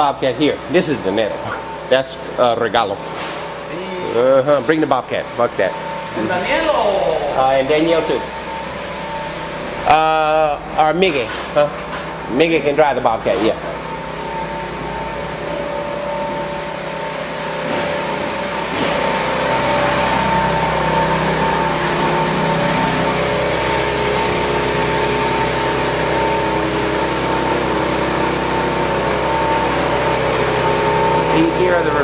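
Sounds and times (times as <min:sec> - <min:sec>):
machine humming and whining: 0:00.0 - 0:32.0.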